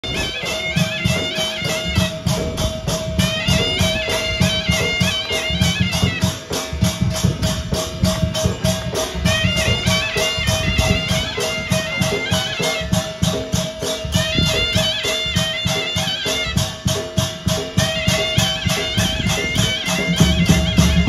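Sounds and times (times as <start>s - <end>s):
cymbal strikes: 0.0s - 21.0s
heavy drum beats: 0.0s - 21.0s
high wavering melody: 0.0s - 21.0s.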